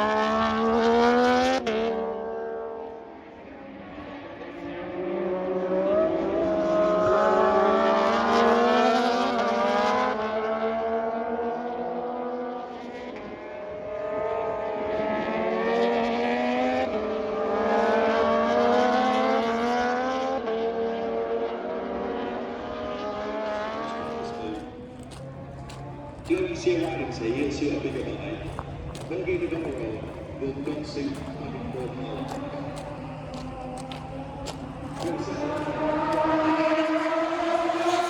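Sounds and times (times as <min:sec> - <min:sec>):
racing motorcycles passing: 0:00.0 - 0:38.0.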